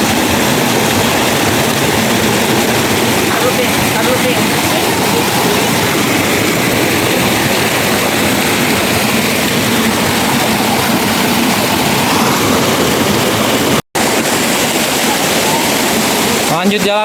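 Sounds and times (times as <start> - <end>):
rushing water roar: 0.0 - 17.0.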